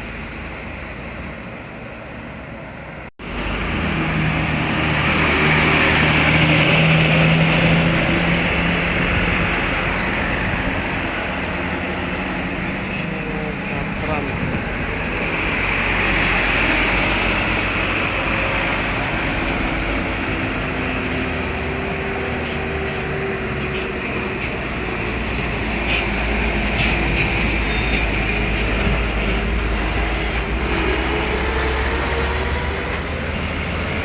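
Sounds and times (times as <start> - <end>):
bus engine and tyre noise: 0.0 - 34.0.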